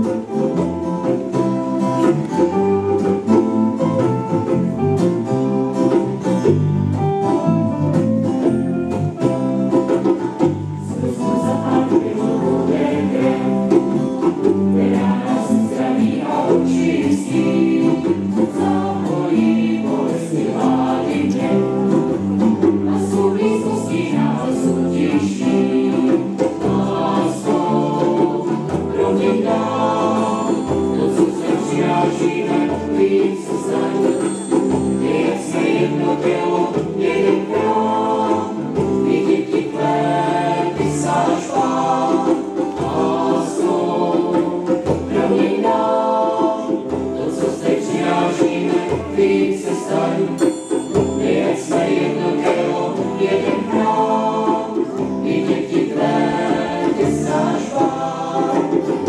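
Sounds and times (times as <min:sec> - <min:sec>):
mixed choir singing a hymn: 0:09.2 - 0:59.0.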